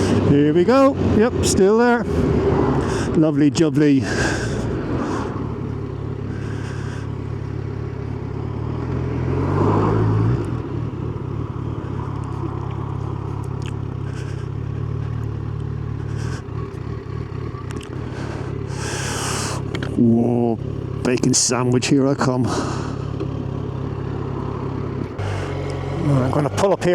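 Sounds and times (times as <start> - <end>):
motorcycle engine cruising: 0.0 - 26.9.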